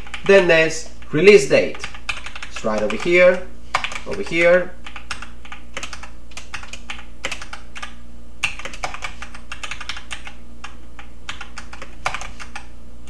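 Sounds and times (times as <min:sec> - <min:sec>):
typing on computer keyboard: 0:00.0 - 0:00.3, 0:01.7 - 0:12.7.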